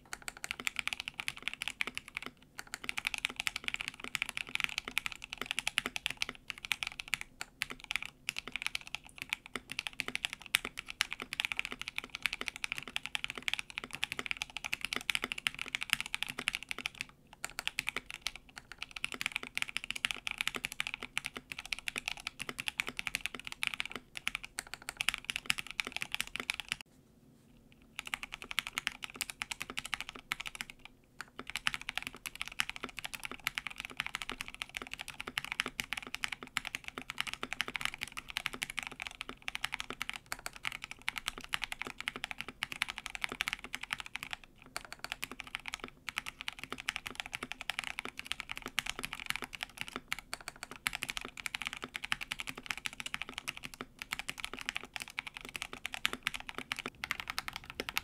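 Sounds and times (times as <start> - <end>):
mechanical keyboard typing: 0.0 - 26.8, 28.0 - 58.0.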